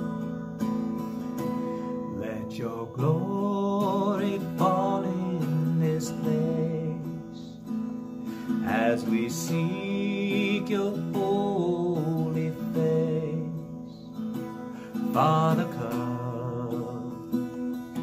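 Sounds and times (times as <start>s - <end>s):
acoustic guitar strumming: 0.0s - 18.0s
man singing: 2.0s - 18.0s.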